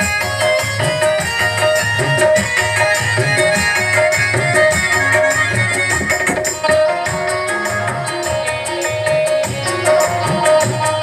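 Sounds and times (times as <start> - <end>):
hand drum and percussion beat: 0.0 - 11.0
held melody line: 0.0 - 11.0.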